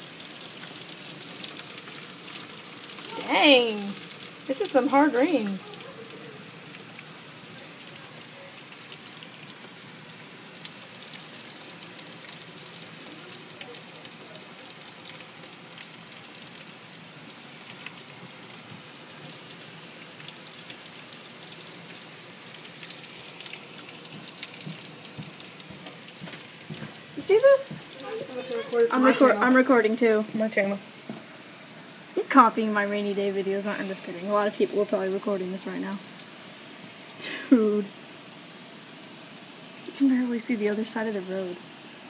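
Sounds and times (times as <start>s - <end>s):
heavy rain hissing: 0.0s - 42.0s
raindrops ticking close by: 0.0s - 42.0s.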